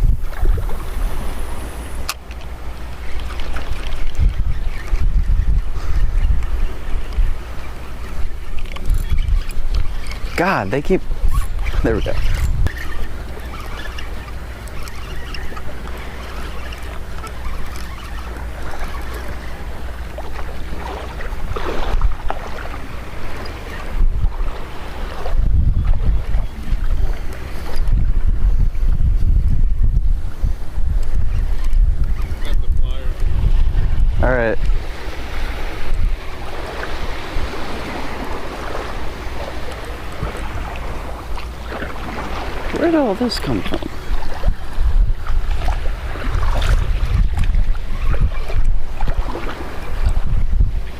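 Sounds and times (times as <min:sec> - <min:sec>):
surf washing on beach: 0:00.0 - 0:50.9
wind buffeting microphone: 0:00.0 - 0:50.9.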